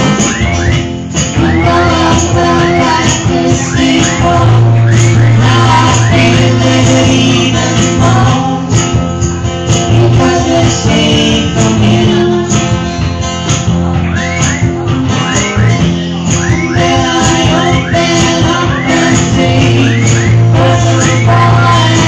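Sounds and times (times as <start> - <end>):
steady drum beat: 0.0 - 22.0
strummed guitar: 0.0 - 22.0
man singing into a microphone: 1.4 - 9.1, 9.7 - 12.9, 15.2 - 22.0.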